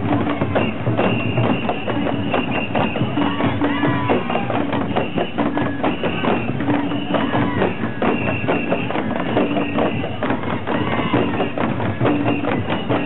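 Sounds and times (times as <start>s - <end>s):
crowd voices: 0.0s - 13.0s
fan drums beaten rapidly: 0.0s - 13.0s.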